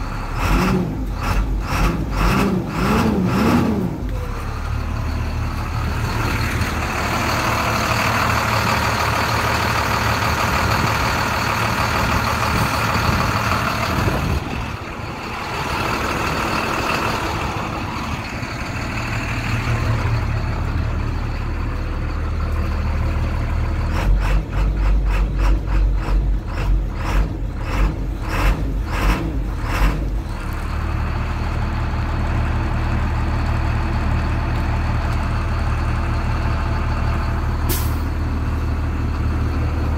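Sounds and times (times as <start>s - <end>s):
diesel bus engine idling: 0.0s - 39.9s.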